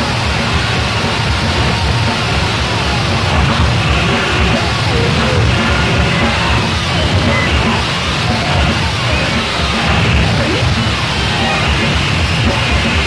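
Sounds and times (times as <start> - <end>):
distorted noise rock: 0.0 - 13.0.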